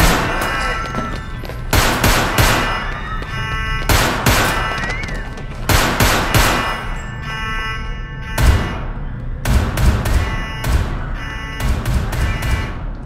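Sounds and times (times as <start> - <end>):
echoing gunshots: 0.0 - 7.2, 8.2 - 13.0.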